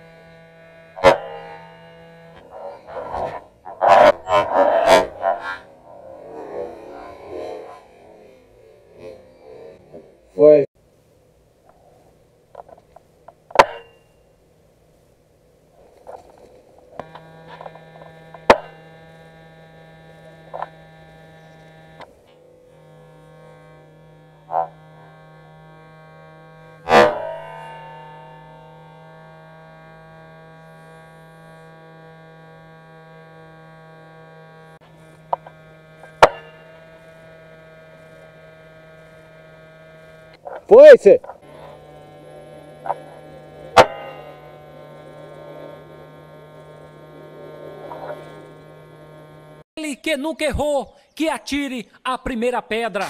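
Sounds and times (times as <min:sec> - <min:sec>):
steady electrical hum: 0:00.0 - 0:49.7.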